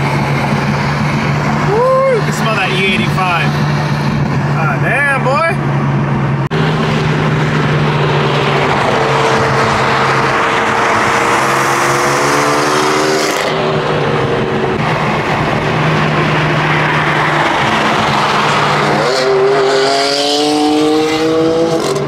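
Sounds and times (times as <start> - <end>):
car engine accelerating: 0.0 - 22.0
road and wind noise: 0.0 - 22.0.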